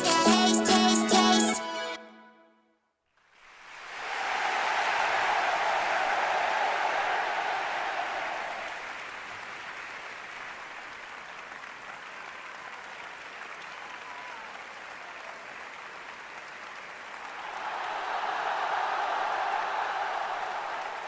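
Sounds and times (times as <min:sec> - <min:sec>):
audience applauding: 0:03.2 - 0:21.0.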